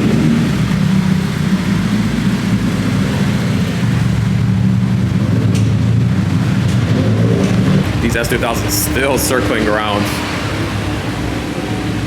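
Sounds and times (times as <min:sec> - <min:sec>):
car engines running low drone: 0:00.0 - 0:12.0.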